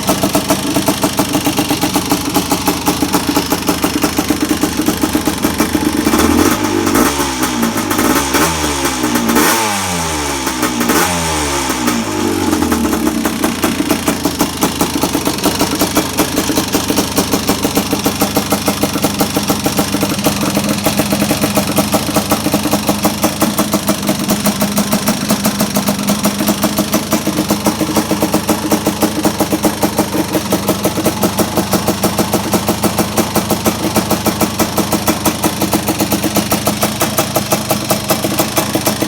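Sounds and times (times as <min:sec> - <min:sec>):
two-stroke engine idling and revving: 0:00.0 - 0:39.0.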